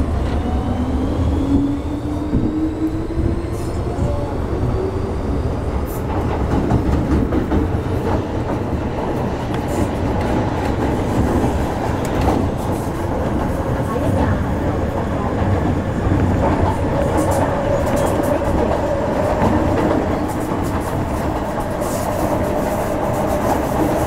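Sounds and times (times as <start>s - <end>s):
wheels rumbling on rails: 0.0s - 24.0s.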